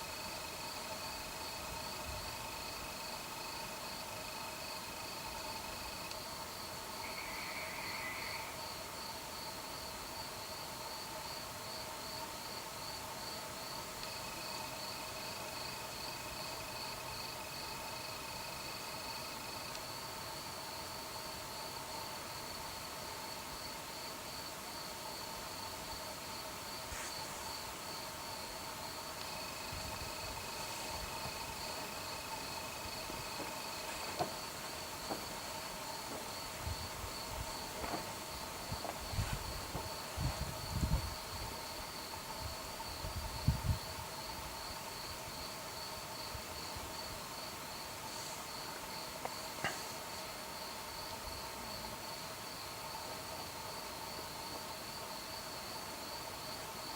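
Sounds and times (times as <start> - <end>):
crickets chirping: 0.0 - 56.9
low insect trill: 0.0 - 56.9.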